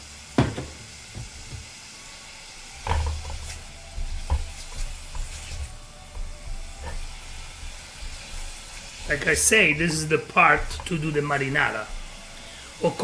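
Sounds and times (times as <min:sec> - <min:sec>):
vegetables sizzling in oil: 0:00.0 - 0:13.0
knocks and scrapes in a pan: 0:00.4 - 0:01.8, 0:02.7 - 0:12.6.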